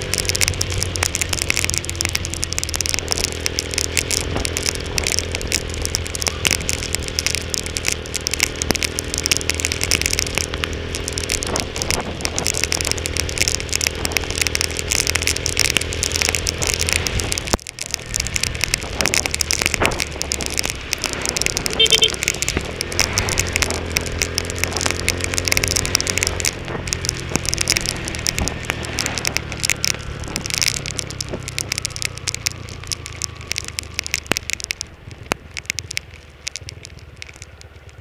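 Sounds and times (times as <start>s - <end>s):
motorcycle engine running: 0.0s - 38.0s
rain and wind on microphone: 0.0s - 38.0s.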